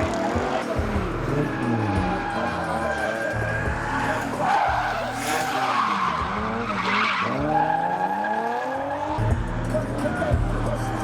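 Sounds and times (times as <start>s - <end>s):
car engines revving: 0.0s - 11.0s
tyres skidding and squealing: 0.0s - 11.0s.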